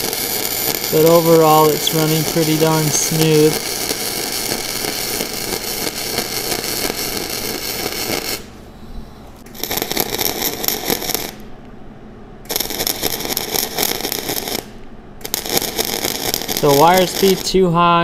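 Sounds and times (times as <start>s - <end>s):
welding arc crackling and popping: 0.0s - 8.6s, 9.4s - 11.5s, 12.5s - 18.0s
welding arc sizzling: 0.0s - 8.6s, 9.4s - 11.5s, 12.5s - 18.0s.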